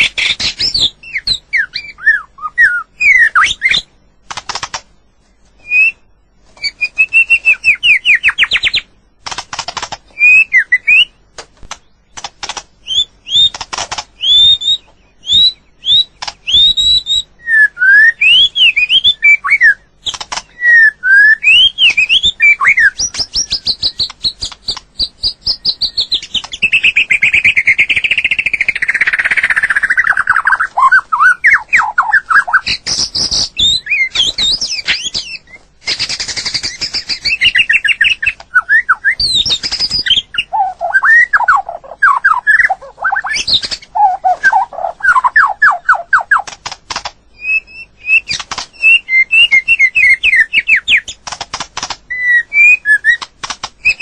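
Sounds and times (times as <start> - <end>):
bird singing whistled song: 0.0 - 3.9, 5.6 - 8.9, 10.1 - 11.2, 12.8 - 13.6, 14.2 - 46.5, 47.3 - 51.2, 52.1 - 54.0.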